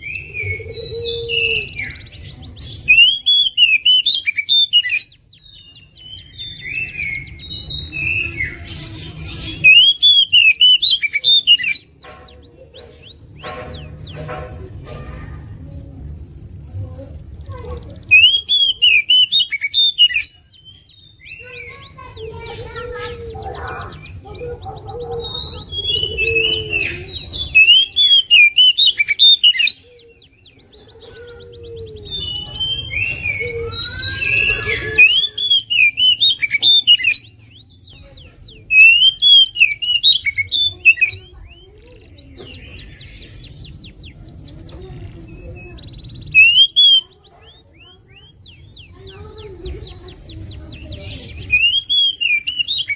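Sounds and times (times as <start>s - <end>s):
bird singing whistled phrases: 0.0s - 14.3s, 17.8s - 52.9s.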